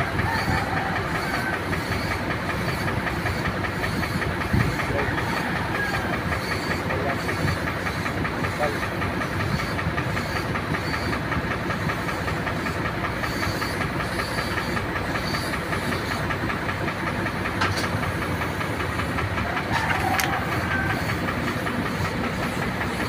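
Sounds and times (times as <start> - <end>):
machine running with fast pulsing: 0.0 - 23.0.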